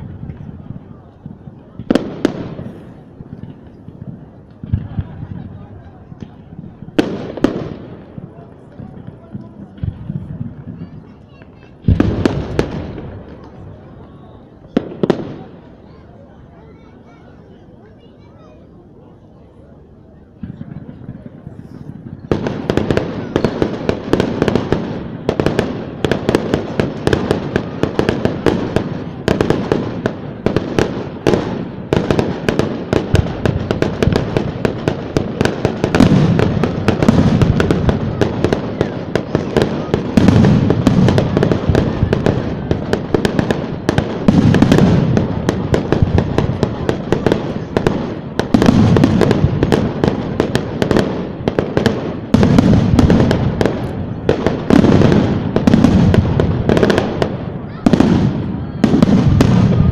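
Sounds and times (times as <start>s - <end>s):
heavy firework booms: 0.0s - 15.7s, 20.4s - 59.9s
fireworks crackling and banging: 0.0s - 59.9s.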